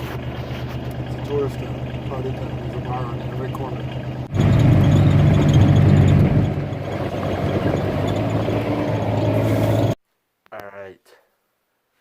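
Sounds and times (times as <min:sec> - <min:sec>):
road noise: 0:00.0 - 0:10.0
vehicle engine running: 0:00.0 - 0:10.0.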